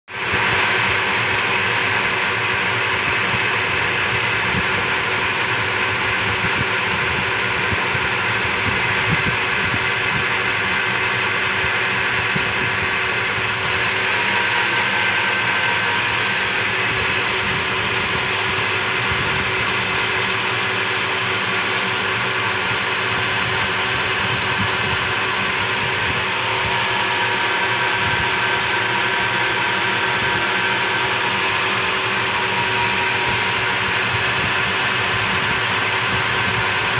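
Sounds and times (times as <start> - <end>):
metal lathe running: 0.2 - 36.9.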